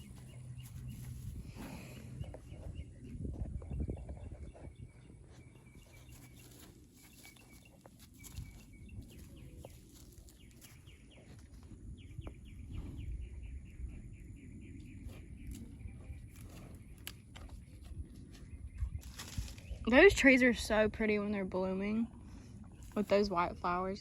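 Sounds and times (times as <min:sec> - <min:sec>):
songbirds chirping: 0:00.0 - 0:24.0
steady low rumble: 0:00.0 - 0:24.0.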